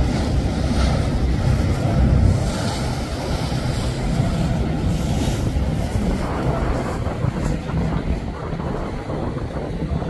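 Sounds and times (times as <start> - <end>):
breaking surf: 0.0 - 10.0
outboard motor running at speed: 0.0 - 10.0
wind buffeting microphone: 0.0 - 10.0.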